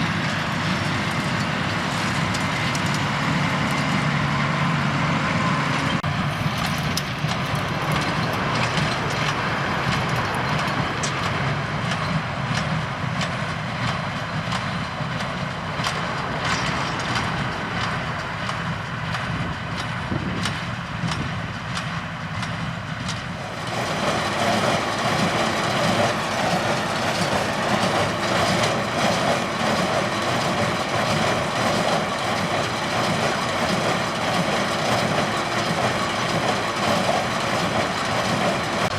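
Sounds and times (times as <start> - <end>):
hay baler clattering and knocking: 0.0 - 38.9
tractor engine running: 0.0 - 38.9.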